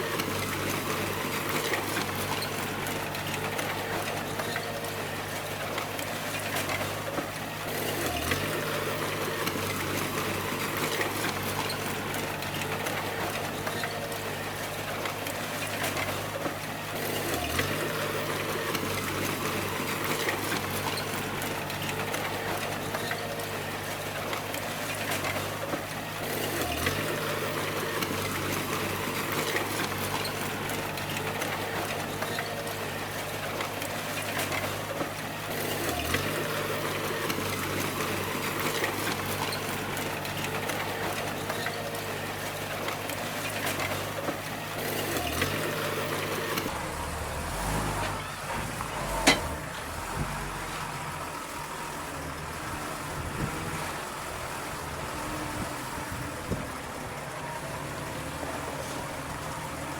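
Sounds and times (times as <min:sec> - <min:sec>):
bulldozer diesel engine running: 0:00.0 - 0:59.9
constant clatter: 0:00.0 - 0:59.9.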